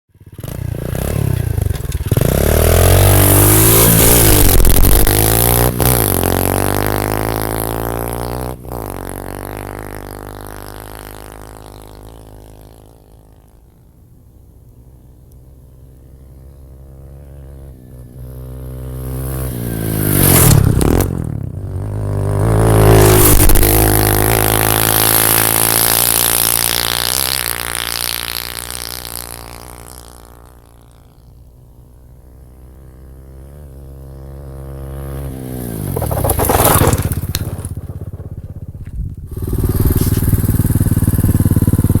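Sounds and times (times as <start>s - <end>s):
pit bike engine passing by: 0.1s - 42.0s.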